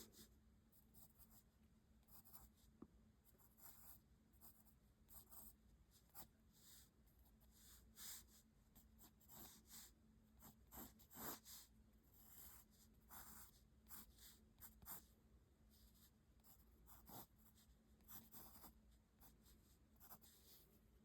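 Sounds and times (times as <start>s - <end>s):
pencil scratching on paper: 2.1s - 2.6s, 3.3s - 15.1s, 15.7s - 20.7s.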